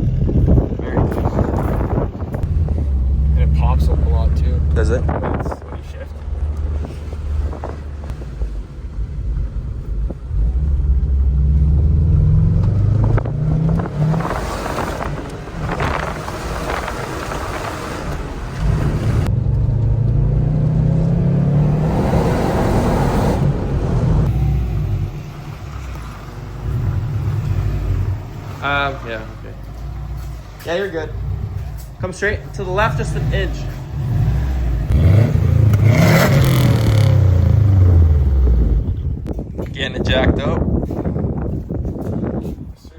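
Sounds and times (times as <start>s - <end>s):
car engine accelerating hard: 0.0s - 39.3s.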